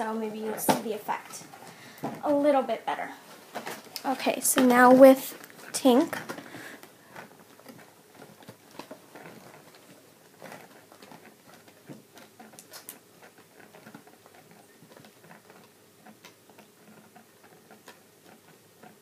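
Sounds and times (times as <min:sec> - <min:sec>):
hands rustling plastic packaging: 0:00.0 - 0:19.0.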